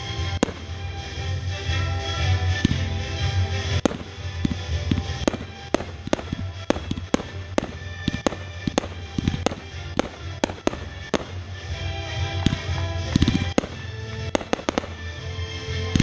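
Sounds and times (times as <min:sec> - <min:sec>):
fireworks banging: 0:00.0 - 0:16.0
music playing: 0:00.0 - 0:16.0.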